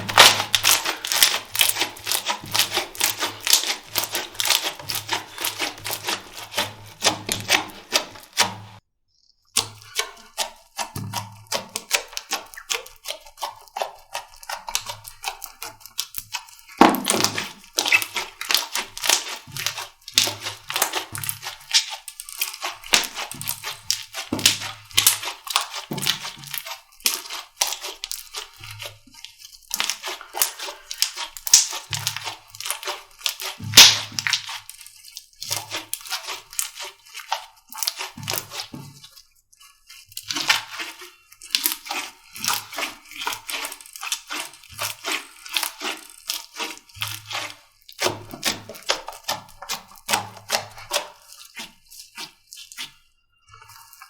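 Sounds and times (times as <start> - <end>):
slime crackling and popping: 0.0 - 8.8, 11.0 - 39.0, 40.1 - 52.7.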